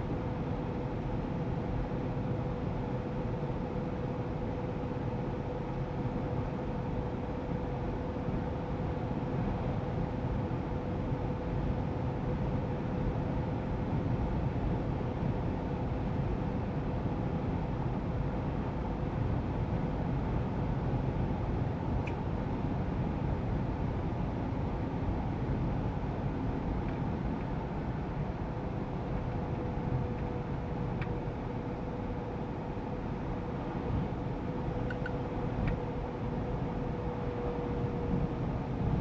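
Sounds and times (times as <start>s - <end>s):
van engine and road rumble: 0.0s - 39.0s.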